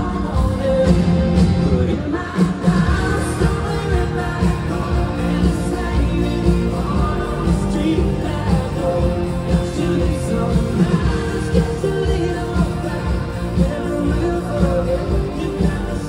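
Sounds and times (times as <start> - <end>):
live country-rock band playing: 0.0 - 16.0
person singing: 0.0 - 16.0.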